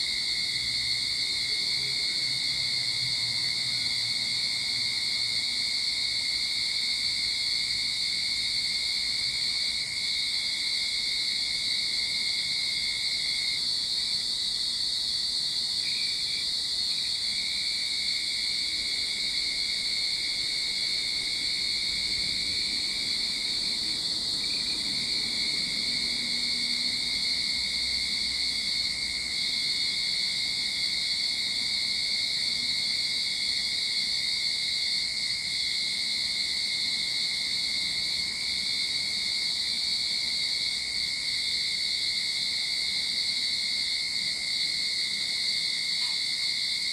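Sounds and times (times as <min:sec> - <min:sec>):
cicadas singing: 0:03.0 - 0:46.9.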